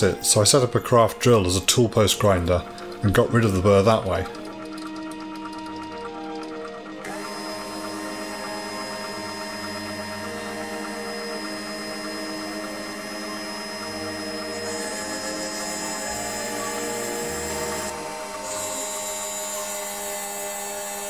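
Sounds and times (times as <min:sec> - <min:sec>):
drill motor whining: 0:00.0 - 0:21.0
orchestral background music: 0:00.0 - 0:21.0.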